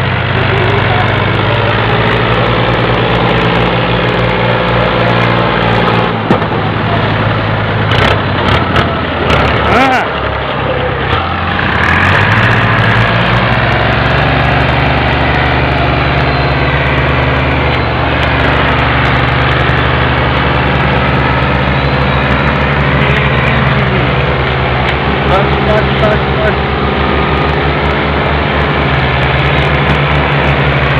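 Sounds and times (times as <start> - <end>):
diesel tractor engine under load: 0.0 - 30.9.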